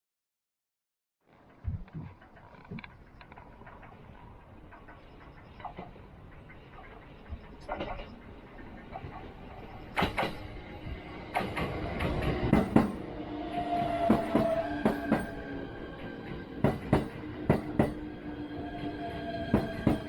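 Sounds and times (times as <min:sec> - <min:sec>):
train running on rails: 0:01.3 - 0:20.0.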